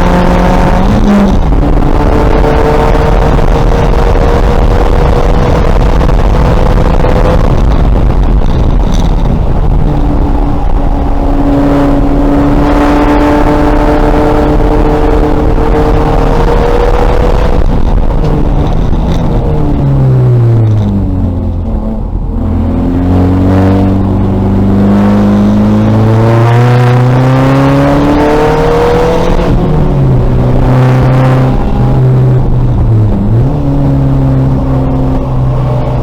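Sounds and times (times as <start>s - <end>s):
race car engine accelerating: 0.0s - 36.0s
road and wind noise: 0.0s - 36.0s.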